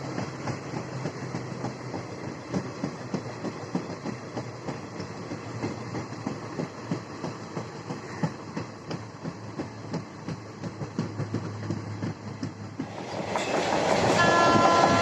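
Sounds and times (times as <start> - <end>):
train rumble: 0.0 - 15.0
train wheels clattering over rails: 0.0 - 15.0.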